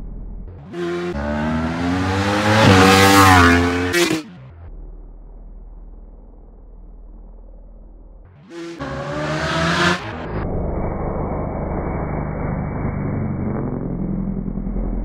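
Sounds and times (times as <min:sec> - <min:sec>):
muffled low drone: 0:00.0 - 0:02.8, 0:04.2 - 0:15.0
motorcycle engine revving: 0:00.0 - 0:15.0.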